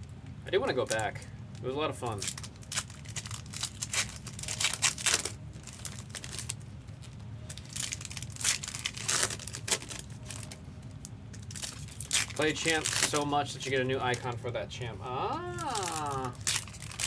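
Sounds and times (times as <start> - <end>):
foil wrappers crinkling and tearing: 0.8 - 14.4, 15.2 - 17.0.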